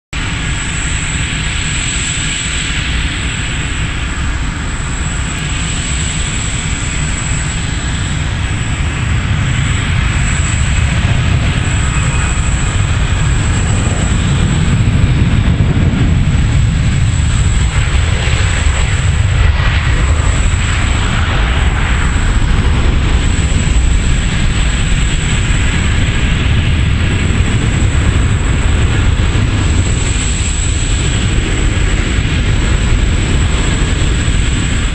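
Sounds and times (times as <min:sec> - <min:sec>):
jet engine rumble: 0:00.2 - 0:34.9.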